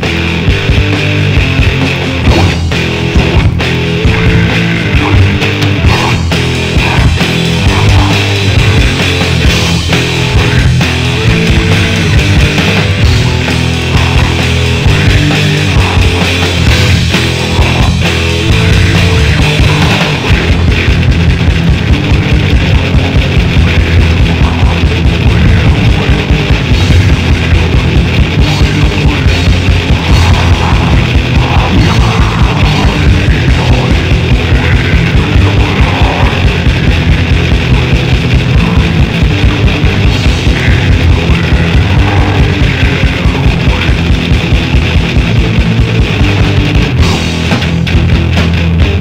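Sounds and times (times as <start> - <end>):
distorted electric guitar: 0.0 - 49.0
fast drumming: 0.0 - 49.0.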